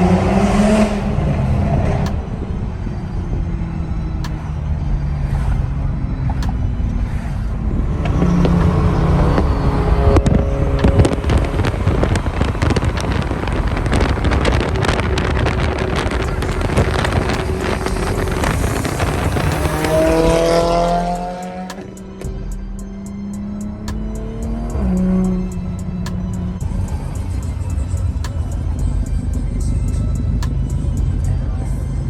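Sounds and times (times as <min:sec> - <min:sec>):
car engine crackling and revving: 0:00.0 - 0:32.0.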